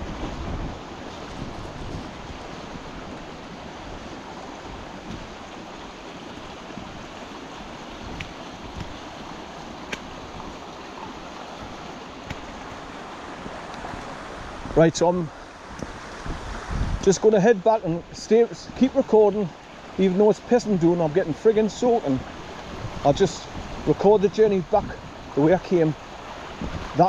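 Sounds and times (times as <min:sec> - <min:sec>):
wind buffeting microphone: 0:00.0 - 0:18.9, 0:22.1 - 0:27.0
stream rushing below waterfall: 0:00.0 - 0:27.0.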